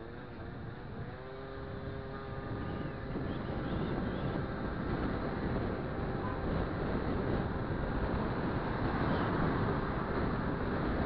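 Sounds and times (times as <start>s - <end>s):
scooter engine buzzing: 0.0s - 11.0s.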